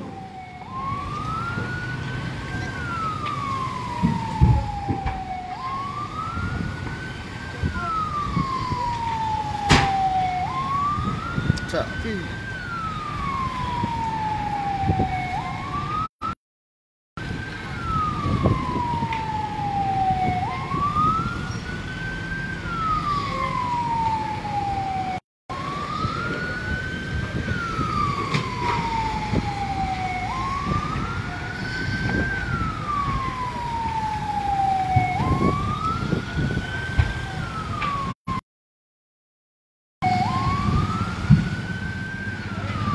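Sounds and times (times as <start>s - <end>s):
fire engine siren wailing: 0.0s - 16.4s, 17.2s - 38.4s, 40.0s - 42.9s.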